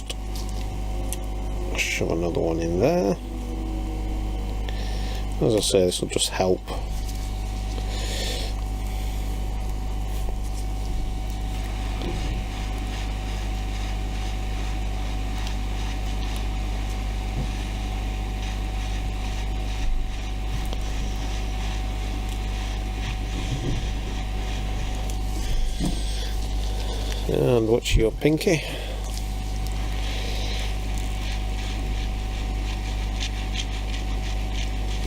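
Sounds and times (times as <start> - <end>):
heat gun fan humming: 0.0 - 35.0.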